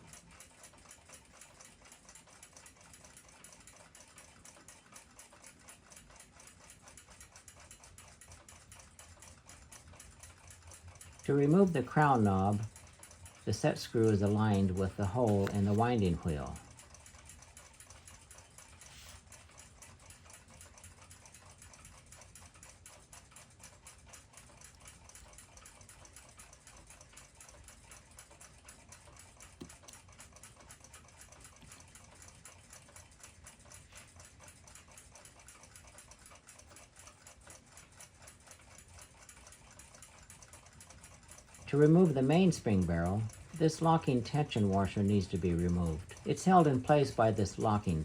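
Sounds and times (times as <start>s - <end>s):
clock ticking: 0.0s - 48.0s.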